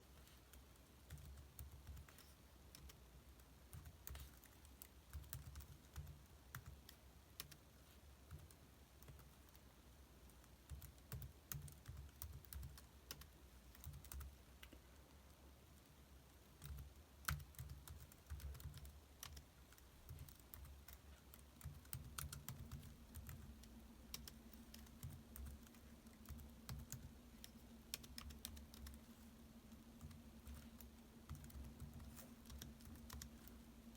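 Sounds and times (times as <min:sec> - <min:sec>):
faint steady hum: 0:00.0 - 0:33.9
laptop keyboard typing: 0:00.2 - 0:14.8, 0:16.4 - 0:33.9.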